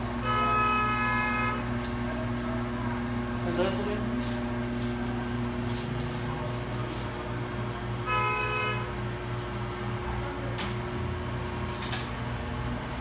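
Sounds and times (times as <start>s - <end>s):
electrical machine hum: 0.0s - 13.0s.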